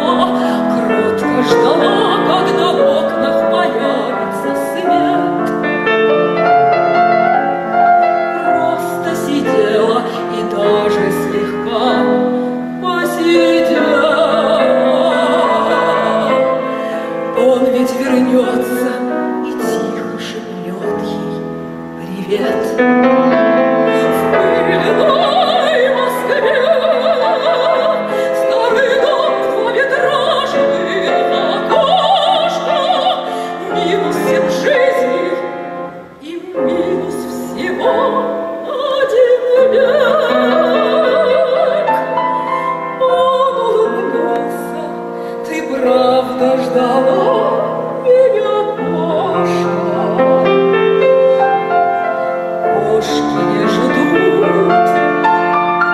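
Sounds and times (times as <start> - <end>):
grand piano: 0.0 - 55.9
woman singing classical: 0.0 - 55.9.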